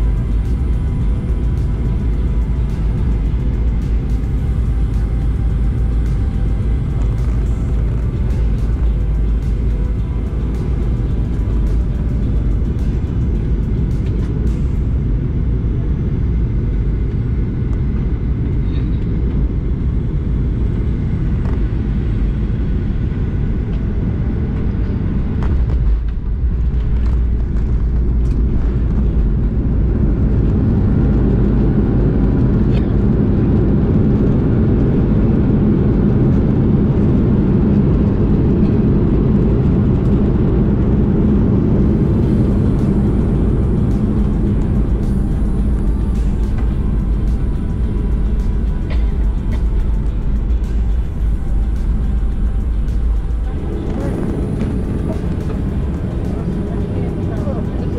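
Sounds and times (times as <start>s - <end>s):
airliner cabin rumble: 0.0s - 57.9s.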